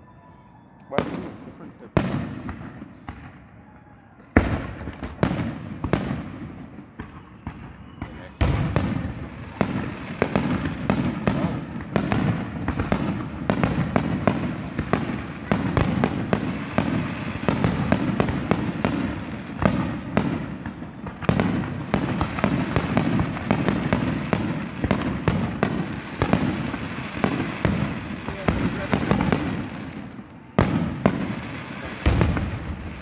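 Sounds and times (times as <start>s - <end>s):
fireworks bursting: 0.9s - 33.0s.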